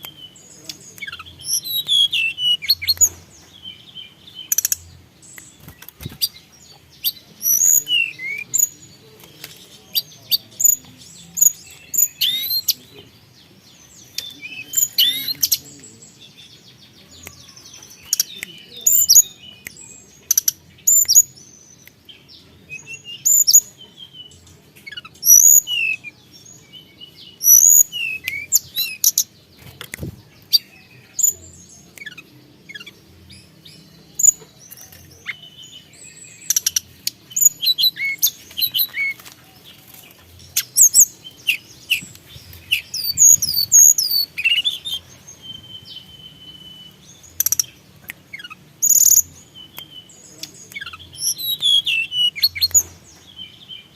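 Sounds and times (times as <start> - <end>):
songbird chirping and whistling: 0.0 - 8.9, 9.7 - 53.9.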